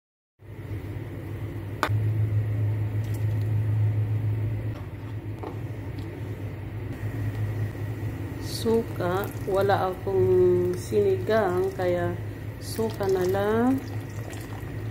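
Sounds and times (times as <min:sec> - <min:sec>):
low mechanical hum: 0:00.4 - 0:14.9.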